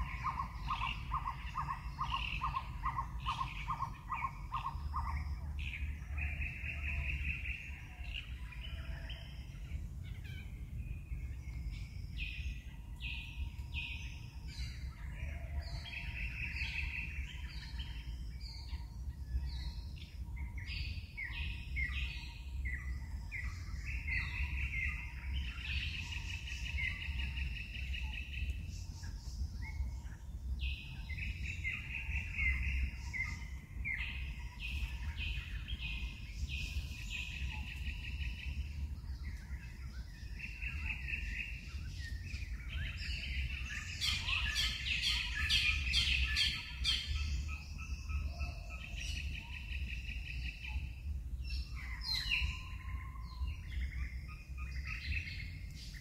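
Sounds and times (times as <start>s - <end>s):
birds singing trilled phrases: 0.0s - 56.0s
steady low rumble: 0.0s - 56.0s.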